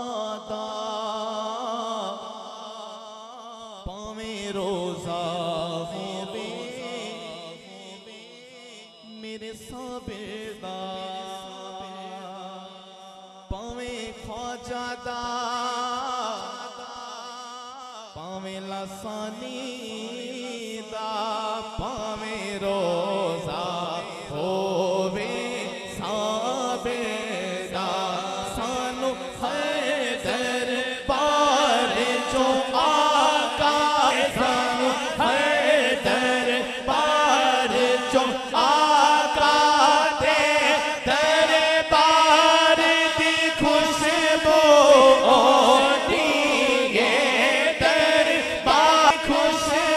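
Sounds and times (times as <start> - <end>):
man singing through a microphone: 0.0 - 49.9.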